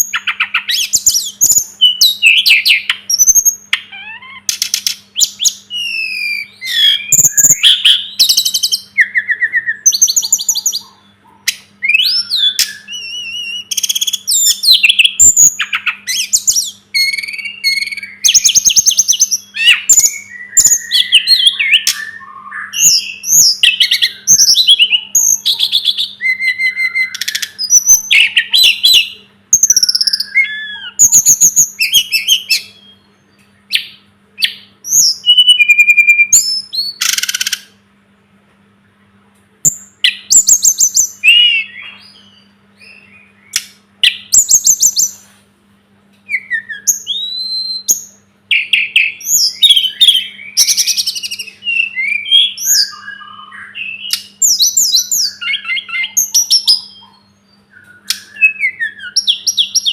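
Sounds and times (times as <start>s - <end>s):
bird singing whistles and trills: 0.0s - 37.8s, 39.6s - 45.2s, 46.2s - 59.9s
faint steady hum: 0.0s - 59.9s.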